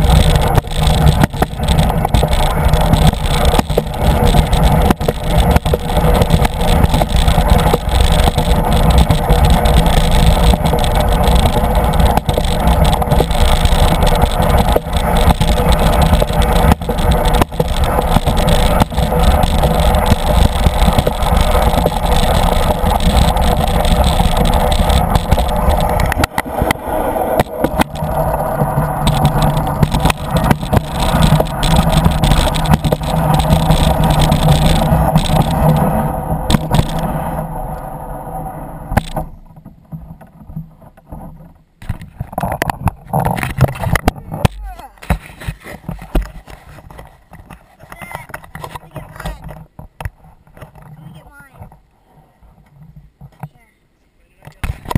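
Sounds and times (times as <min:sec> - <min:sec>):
sled rumbling down track: 0:00.0 - 0:53.5, 0:54.4 - 0:54.9.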